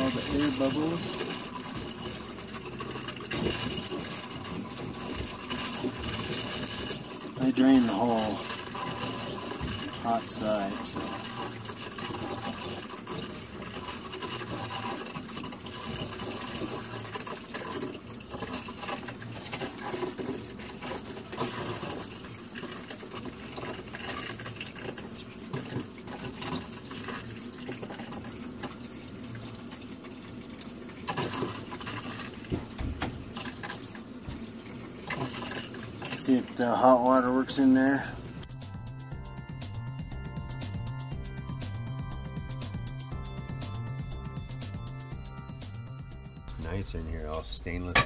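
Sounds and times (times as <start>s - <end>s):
water running from tap: 0.0s - 48.0s.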